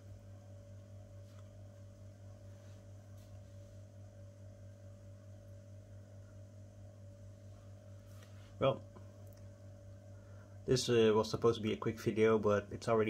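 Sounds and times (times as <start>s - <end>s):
aquarium equipment hum: 0.0s - 13.0s.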